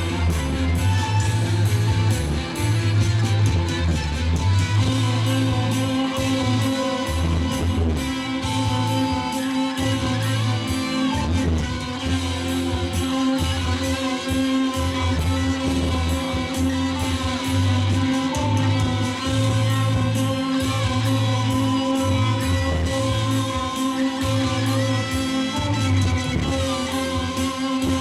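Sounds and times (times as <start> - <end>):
rock band instrumental: 0.0 - 28.0.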